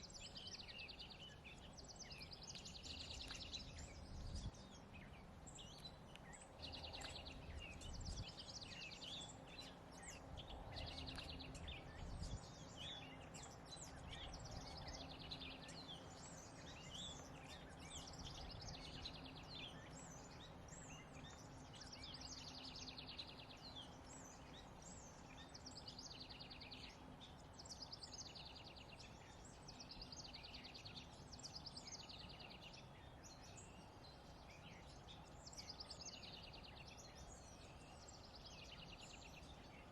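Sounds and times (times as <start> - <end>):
low steady background hum: 0.0 - 39.9
small birds chirping and trilling: 0.0 - 39.9.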